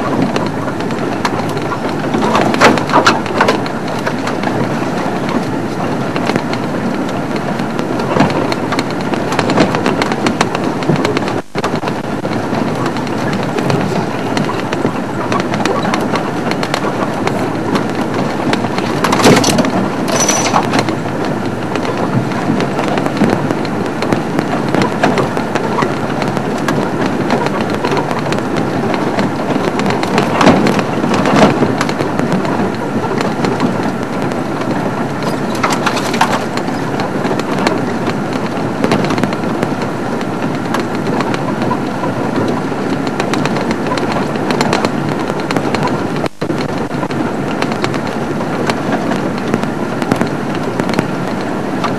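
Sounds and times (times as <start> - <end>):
vehicle engine and road rumble: 0.0 - 51.9
vehicle knocks and rattles: 0.0 - 51.9.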